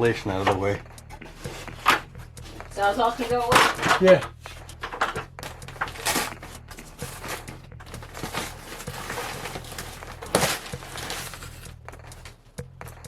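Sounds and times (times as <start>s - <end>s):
rustling and scraping building material: 0.0s - 12.9s.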